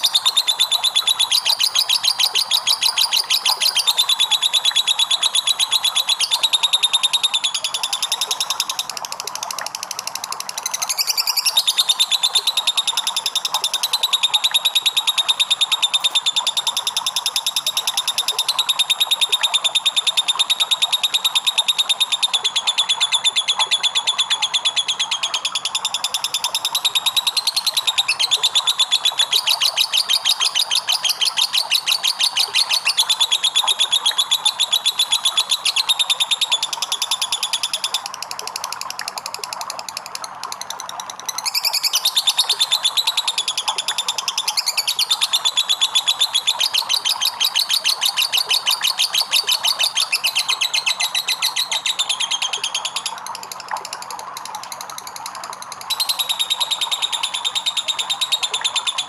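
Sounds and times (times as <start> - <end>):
lovebird chattering trill: 0.0 - 8.9, 10.6 - 38.1, 41.3 - 53.2, 55.9 - 59.0.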